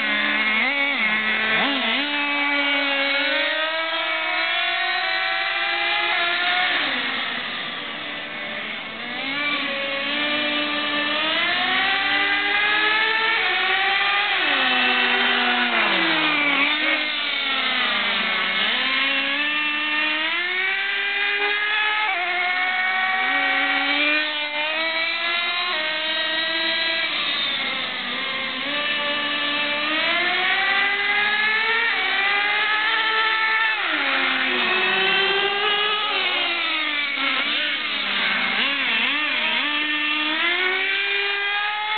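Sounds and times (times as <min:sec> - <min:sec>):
small nitro engines revving: 0:00.0 - 0:41.9.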